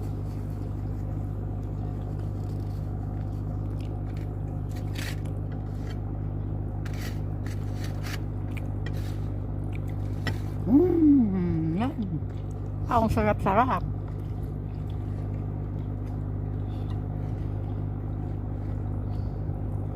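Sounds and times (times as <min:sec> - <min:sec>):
crunching while eating: 0:00.0 - 0:10.7, 0:13.8 - 0:19.9
low mechanical hum: 0:00.0 - 0:19.9.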